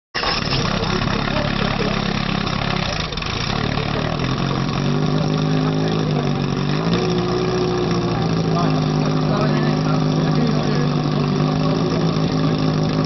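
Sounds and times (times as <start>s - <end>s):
pump engine running and revving: 0.2s - 13.0s.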